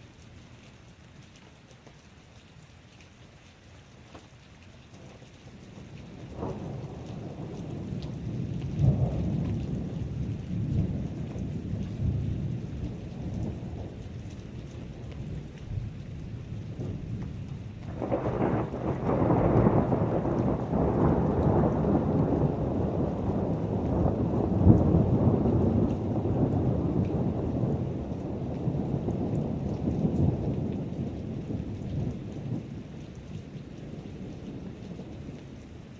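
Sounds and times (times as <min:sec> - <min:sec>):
heavy rain: 0:00.0 - 0:35.9
thunder rumbling: 0:05.7 - 0:35.8.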